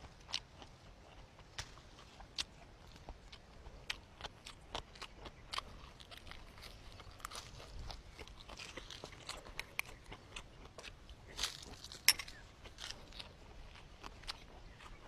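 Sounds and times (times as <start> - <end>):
food being chewed: 0.0 - 15.0.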